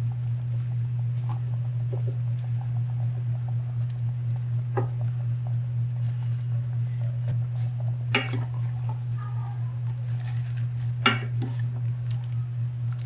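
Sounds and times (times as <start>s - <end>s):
steady low hum: 0.0s - 13.0s
pot simmering ticks and pops: 0.1s - 9.2s, 9.8s - 13.0s.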